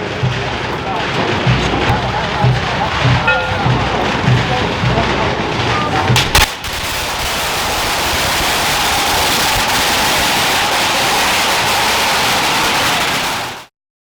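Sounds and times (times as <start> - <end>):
firecracker bangs: 0.0 - 13.7
rapid firecracker crackle: 0.0 - 13.7.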